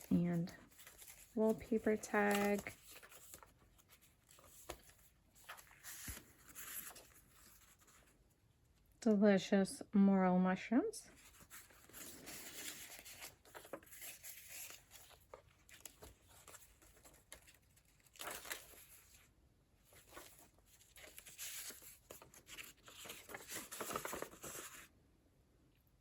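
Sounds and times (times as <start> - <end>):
paper rustling and page turns: 0.0 - 8.2, 11.1 - 24.9.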